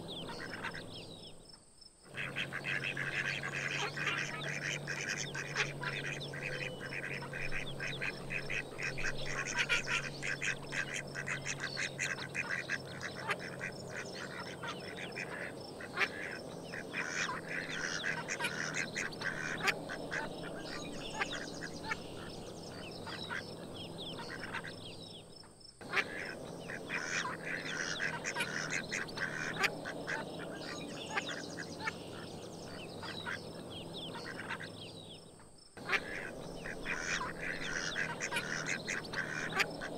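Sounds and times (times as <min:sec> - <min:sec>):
ducks quacking: 0:00.0 - 0:01.0, 0:02.1 - 0:25.0, 0:25.8 - 0:39.9.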